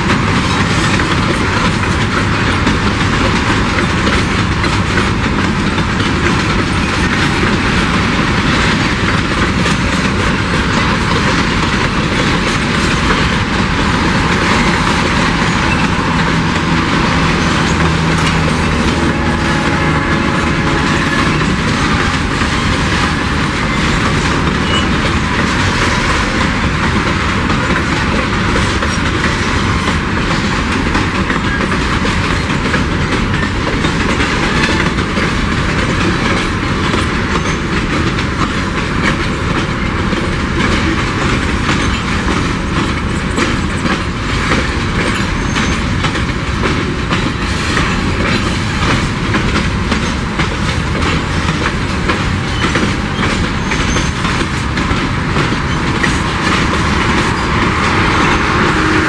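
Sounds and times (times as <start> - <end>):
clicking over rail joints: 0.0 - 58.6
train wheels rumbling: 0.0 - 59.0.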